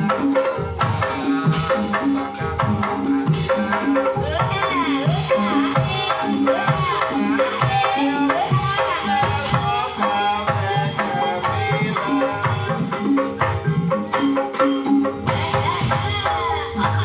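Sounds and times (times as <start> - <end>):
hand drums beating: 0.0 - 17.0
shawm melody: 0.0 - 17.0.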